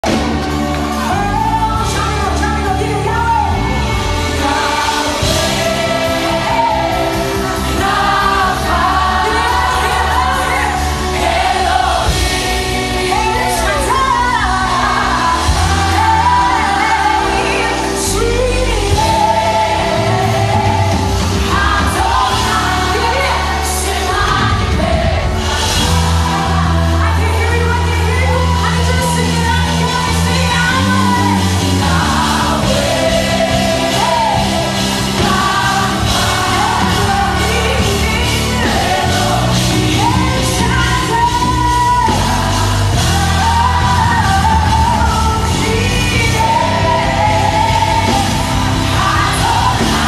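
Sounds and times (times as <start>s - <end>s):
sustained bass notes: 0.0s - 50.0s
woman singing: 0.8s - 25.4s, 26.0s - 50.0s.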